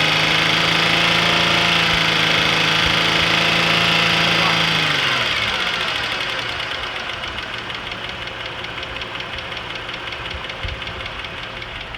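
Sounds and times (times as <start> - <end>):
car engine idling: 0.0 - 11.9
rapid even engine ticking: 0.0 - 11.9.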